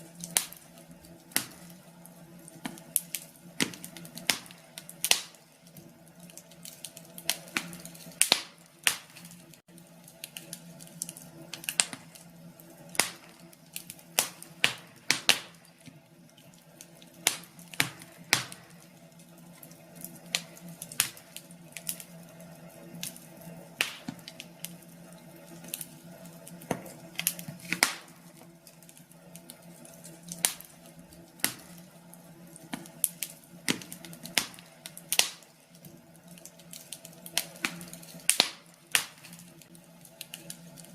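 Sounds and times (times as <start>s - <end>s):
faint steady hum: 0.0s - 40.9s
wood fire crackling: 0.0s - 40.9s.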